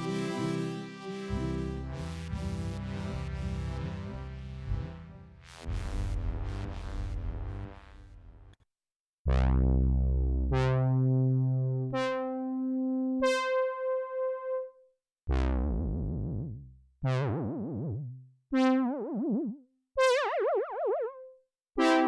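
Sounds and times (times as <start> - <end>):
synthesizer notes with filter sweep: 0.0 - 8.5, 9.3 - 14.6, 15.3 - 22.0.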